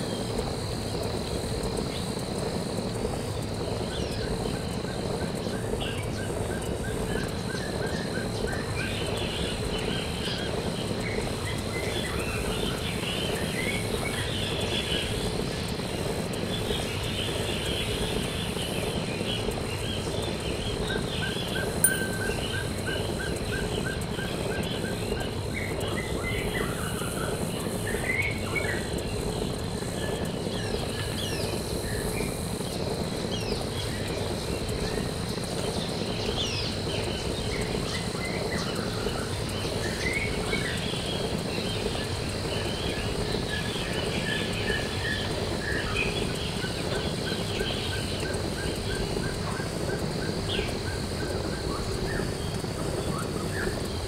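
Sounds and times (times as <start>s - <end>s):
high insect whine: 0.0s - 54.0s.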